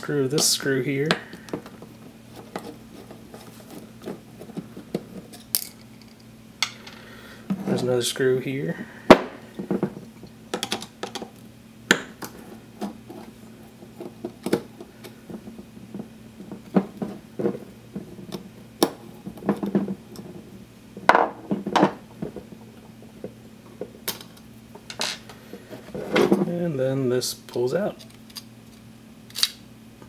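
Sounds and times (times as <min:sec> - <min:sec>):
parts being handled: 0:00.0 - 0:07.8, 0:12.0 - 0:26.5, 0:27.4 - 0:29.6.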